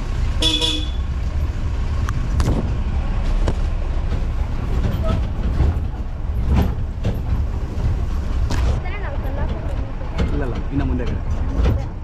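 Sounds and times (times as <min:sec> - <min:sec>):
jeep engine and road rumble: 0:00.0 - 0:12.0
knocks and rattles over bumps: 0:01.0 - 0:12.0.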